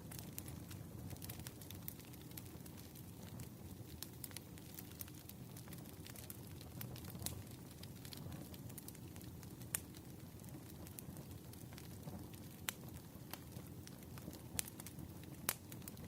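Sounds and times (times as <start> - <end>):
campfire burning: 0.0 - 16.0
fire crackles and pops: 0.0 - 16.0.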